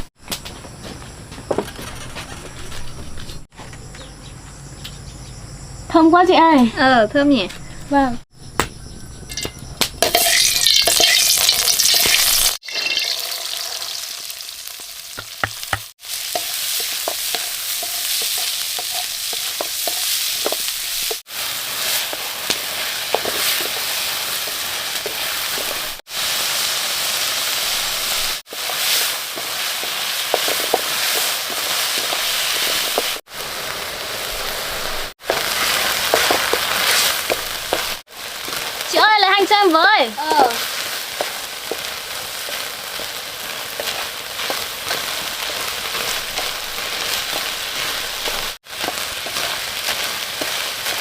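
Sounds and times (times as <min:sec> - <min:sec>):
food sizzling in a pan: 0:10.0 - 0:51.0.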